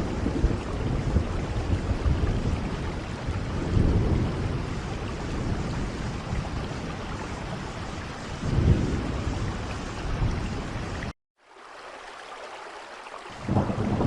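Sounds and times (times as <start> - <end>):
thunder rumbling: 0.0 - 11.1, 13.4 - 14.0
steady rain: 0.0 - 14.0.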